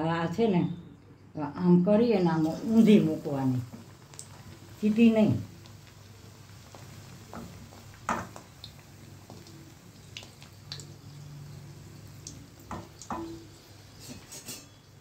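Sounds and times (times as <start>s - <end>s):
oil bubbling while deep-frying: 2.2s - 15.0s.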